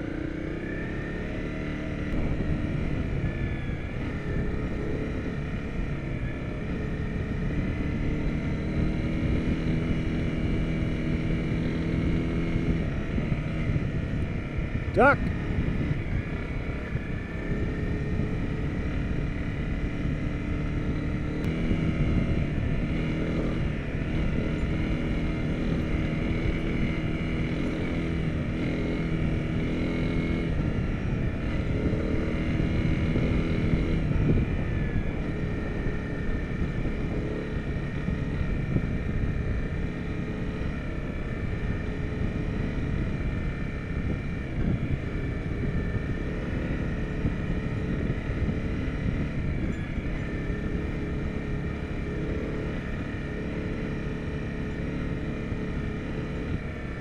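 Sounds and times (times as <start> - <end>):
motorcycle engine on dirt track: 0.0 - 57.0.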